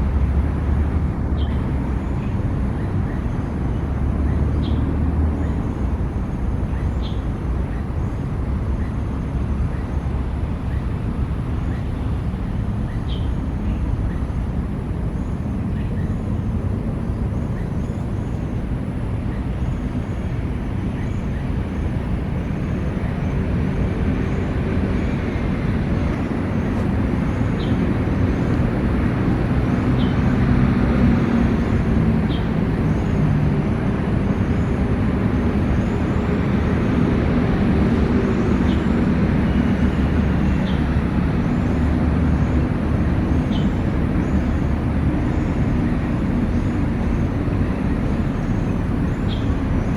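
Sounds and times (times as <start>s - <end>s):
city road traffic rumble: 0.0s - 49.9s.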